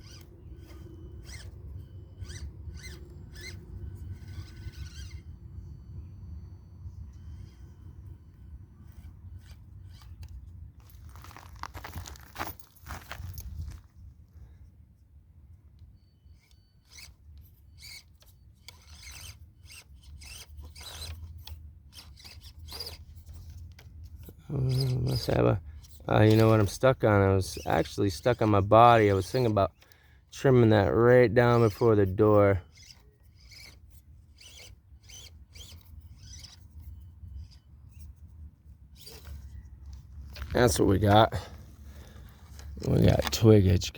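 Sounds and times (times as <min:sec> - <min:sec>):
small electric motor whining: 0:00.0 - 0:13.8, 0:15.8 - 0:43.6
toy car scraping against rock: 0:00.0 - 0:13.8, 0:16.3 - 0:43.9.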